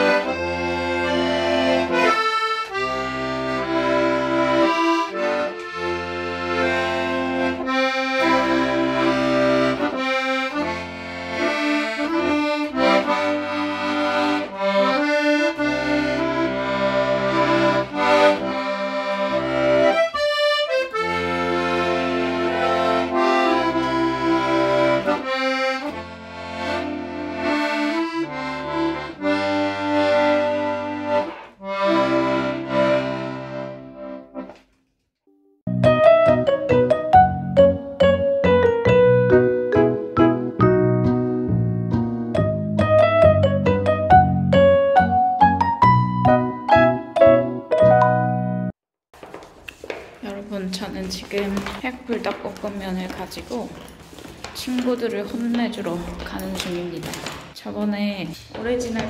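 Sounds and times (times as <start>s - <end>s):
button accordion folk tune: 0.0s - 34.6s, 35.7s - 48.8s.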